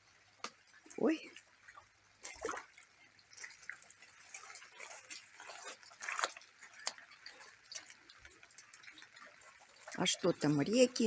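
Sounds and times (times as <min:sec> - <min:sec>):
rainwater dripping and splashing: 0:00.0 - 0:11.0.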